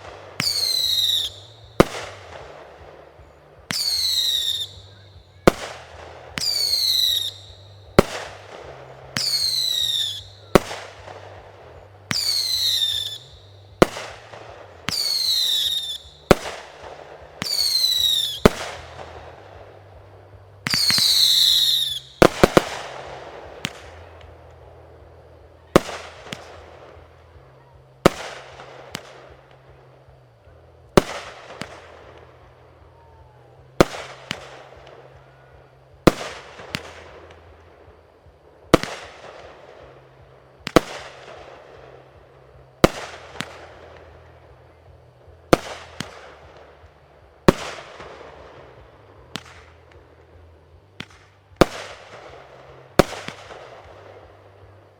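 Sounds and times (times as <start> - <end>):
firework bangs: 0.0 - 30.3, 30.9 - 44.6, 45.2 - 54.9
whistling fireworks: 0.0 - 54.9.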